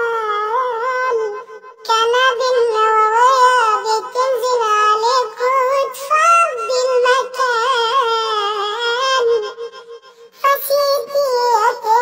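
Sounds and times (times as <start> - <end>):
high-pitched cartoonish voice singing: 0.0 - 9.8, 10.4 - 12.0.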